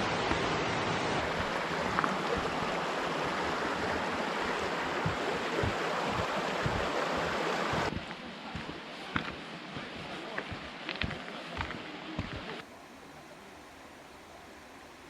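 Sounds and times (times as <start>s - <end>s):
fast-flowing water rushing: 0.0s - 12.7s.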